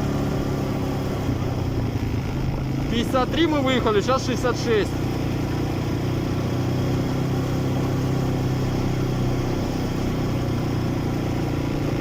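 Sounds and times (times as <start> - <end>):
quad bike engine droning: 0.0 - 12.0.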